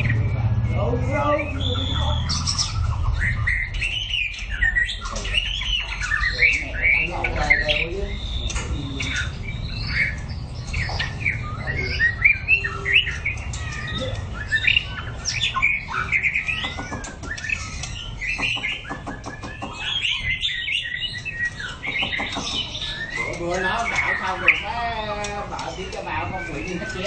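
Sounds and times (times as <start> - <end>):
bird singing whistled phrases: 0.0 - 27.0.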